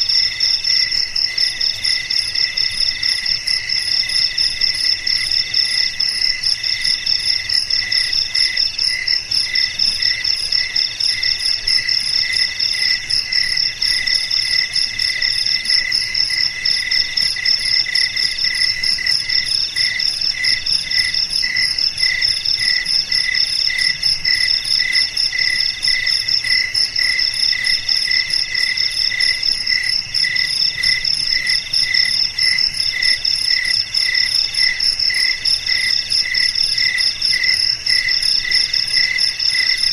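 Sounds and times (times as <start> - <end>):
cricket trills: 0.0 - 39.9
crickets chirping: 0.0 - 39.9.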